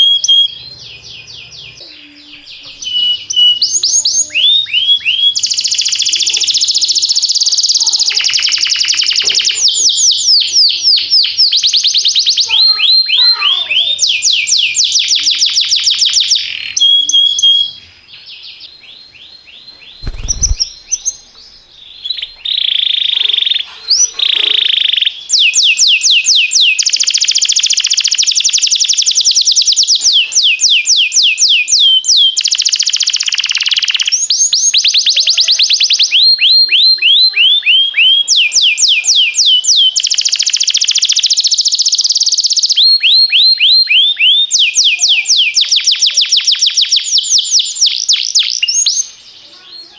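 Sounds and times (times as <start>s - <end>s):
canary singing in trills: 0.0s - 49.9s.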